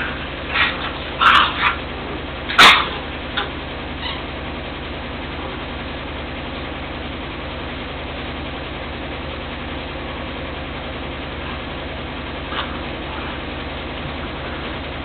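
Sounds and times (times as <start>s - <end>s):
mechanical hum with hiss: 0.0s - 15.0s.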